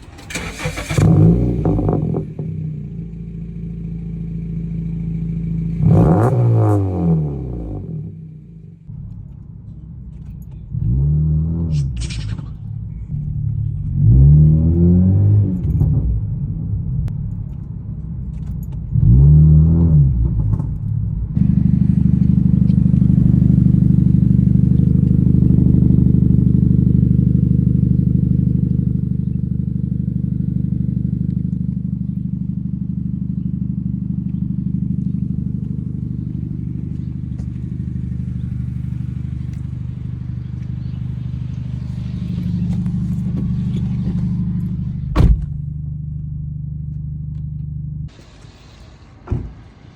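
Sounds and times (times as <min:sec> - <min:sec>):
car engine revving: 0:00.0 - 0:08.3, 0:10.6 - 0:17.6, 0:18.3 - 0:45.8.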